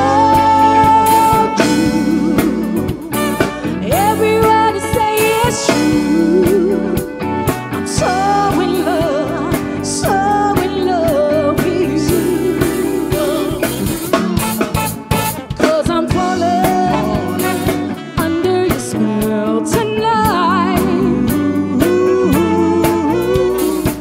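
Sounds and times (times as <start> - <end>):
woman singing: 0.0 - 14.8, 15.4 - 24.0
drums keeping time: 0.0 - 24.0
soul band playing: 0.0 - 24.0.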